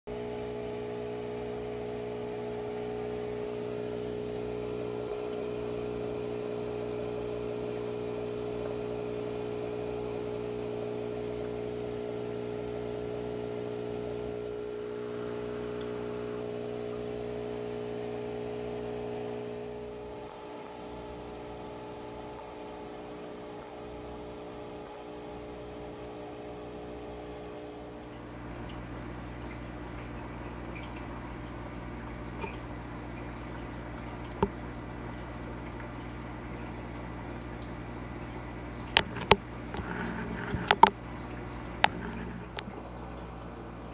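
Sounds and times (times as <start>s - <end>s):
aquarium pump humming: 0.1s - 43.9s.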